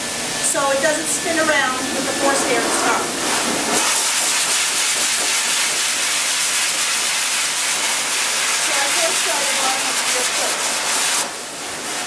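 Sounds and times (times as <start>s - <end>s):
pet dryer blowing air: 0.0s - 12.0s.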